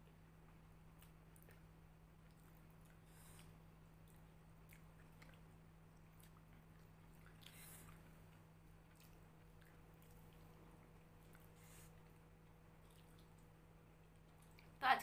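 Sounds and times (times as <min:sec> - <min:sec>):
chewing: 0:00.1 - 0:14.8.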